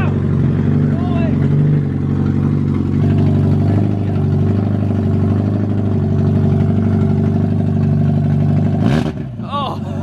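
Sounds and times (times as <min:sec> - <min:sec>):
car engine idling loudly: 0:00.0 - 0:10.0.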